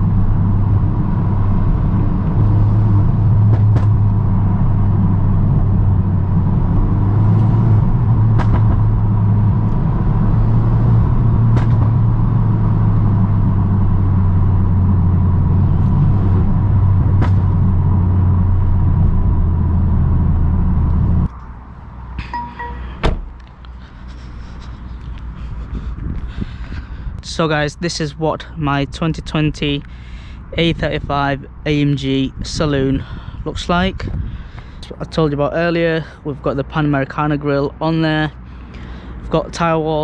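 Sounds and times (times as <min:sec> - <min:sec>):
car engine drone in cabin: 0:00.0 - 0:40.0
outdoor ambience: 0:00.0 - 0:40.0
road noise: 0:00.0 - 0:40.0.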